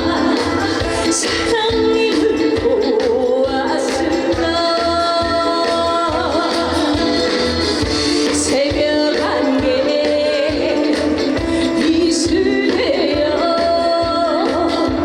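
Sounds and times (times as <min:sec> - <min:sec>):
accompaniment with steady beat: 0:00.0 - 0:15.0
woman singing: 0:00.0 - 0:15.0.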